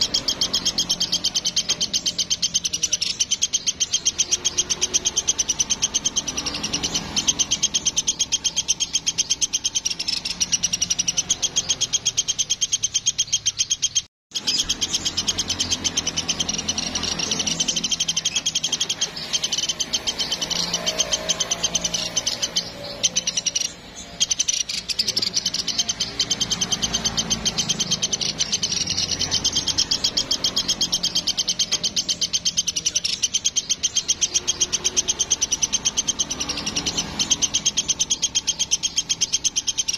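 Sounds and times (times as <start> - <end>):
woodpecker rapid trill call: 0.0 - 39.9.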